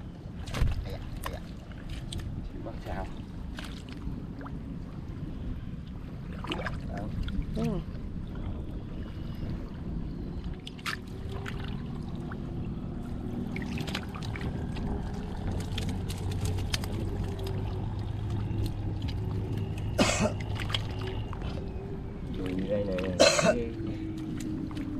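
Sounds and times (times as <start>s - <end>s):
low motor hum: 0.0s - 24.9s
water splashing and sloshing: 0.0s - 24.9s.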